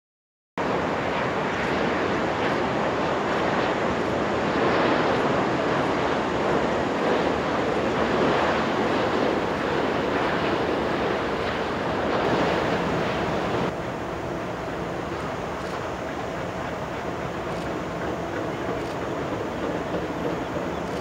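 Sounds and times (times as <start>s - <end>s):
jet engine rushing noise: 0.6s - 21.0s.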